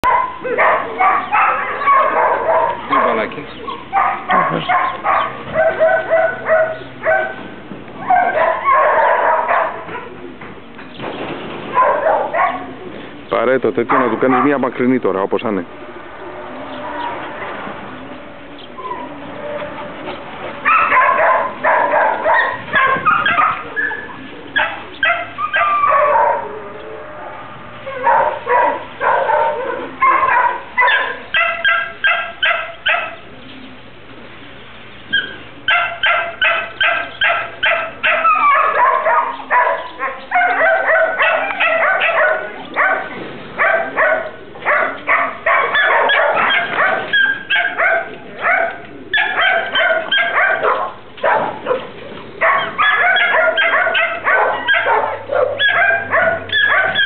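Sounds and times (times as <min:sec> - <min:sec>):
dog barking and yelping: 0:00.0 - 0:10.3, 0:11.7 - 0:12.9, 0:13.9 - 0:14.6, 0:20.6 - 0:26.6, 0:27.3 - 0:33.3, 0:35.1 - 0:57.0.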